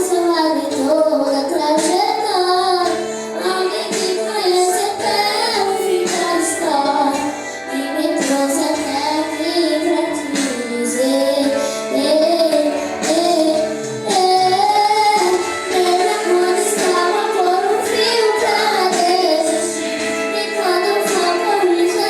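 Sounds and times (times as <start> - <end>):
high voices singing: 0.0 - 22.0
sustained instrumental accompaniment: 0.0 - 22.0.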